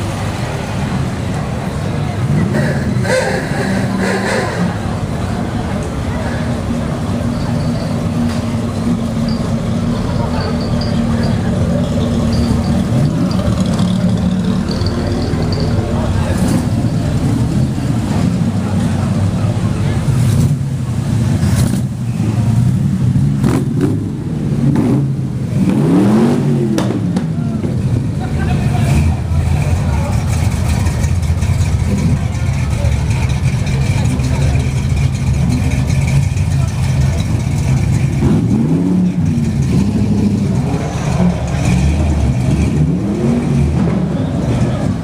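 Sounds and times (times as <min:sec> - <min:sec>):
car engines driving past: 0:00.0 - 0:45.0.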